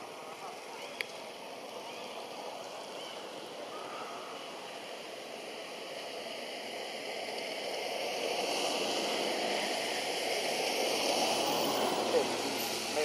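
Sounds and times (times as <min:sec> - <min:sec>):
rain on grass and foliage: 0:00.0 - 0:13.0.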